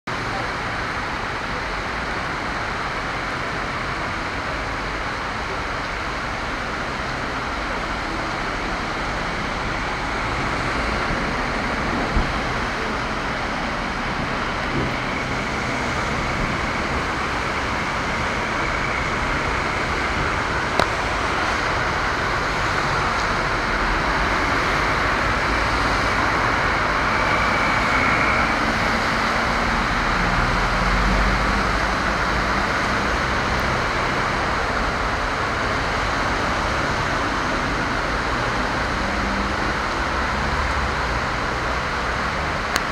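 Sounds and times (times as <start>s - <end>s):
heavy rain pouring: 0.1s - 42.9s.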